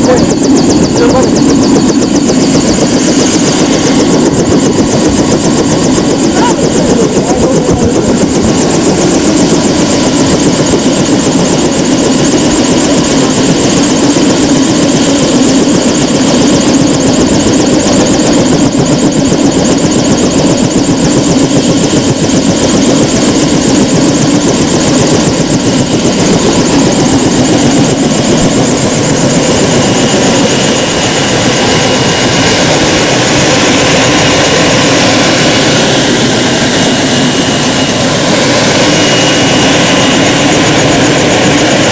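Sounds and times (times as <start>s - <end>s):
helicopter engine and rotor: 0.0s - 41.9s
high whine: 0.0s - 41.9s.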